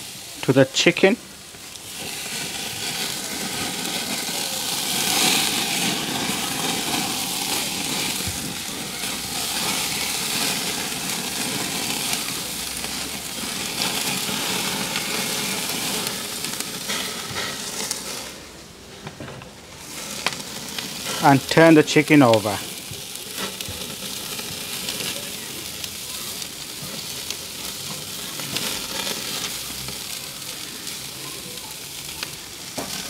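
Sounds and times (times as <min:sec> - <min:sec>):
chicken sizzling on grill: 0:00.0 - 0:33.0.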